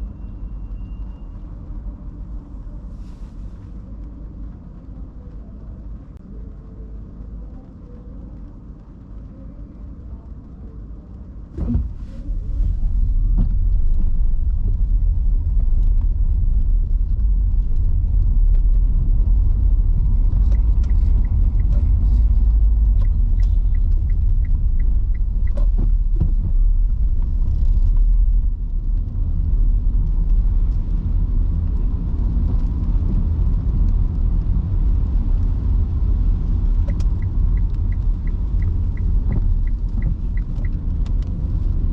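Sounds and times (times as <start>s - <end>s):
tyre and road rumble: 0.0s - 41.9s.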